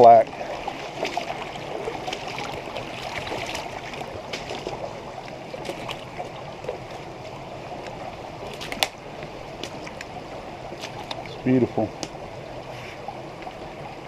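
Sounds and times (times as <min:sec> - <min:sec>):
creek water splashing over rocks: 0:00.0 - 0:14.0.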